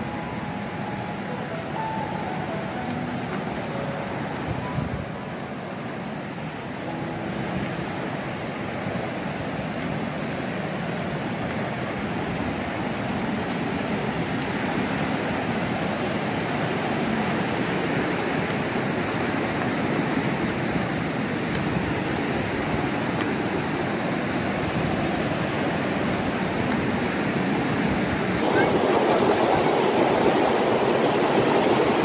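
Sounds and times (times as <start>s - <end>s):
stream rapids rushing: 0.0s - 32.0s.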